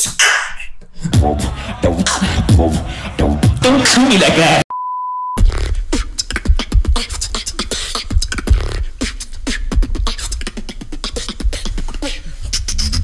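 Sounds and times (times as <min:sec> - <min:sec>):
beatboxing into microphone: 0:00.0 - 0:04.6, 0:05.4 - 0:13.0.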